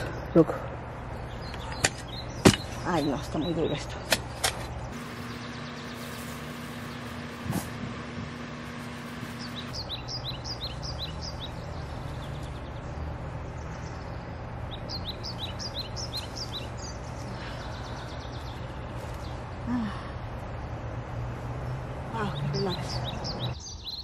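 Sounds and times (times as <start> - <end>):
low hum: 0.0 - 22.4
songbird chirping: 0.0 - 24.0.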